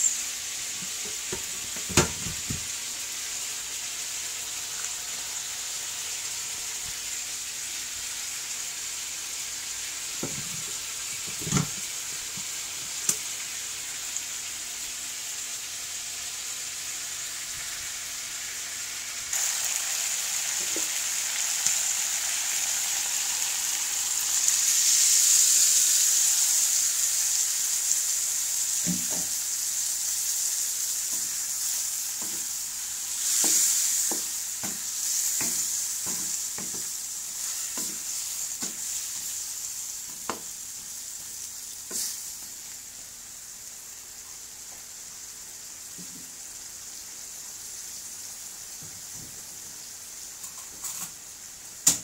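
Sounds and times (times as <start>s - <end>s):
food sizzling in a wok: 0.0s - 52.0s.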